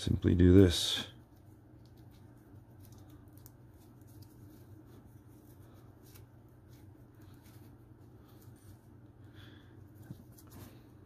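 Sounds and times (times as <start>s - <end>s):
steady low hum: 0.0s - 11.0s
rope rustling and ticking: 1.1s - 11.0s.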